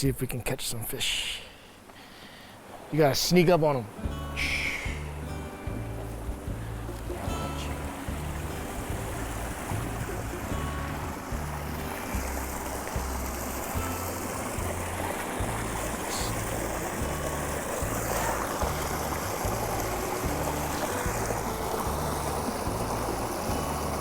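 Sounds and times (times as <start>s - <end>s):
creek water flowing: 1.4s - 24.0s
background music with steady bass line: 4.0s - 24.0s.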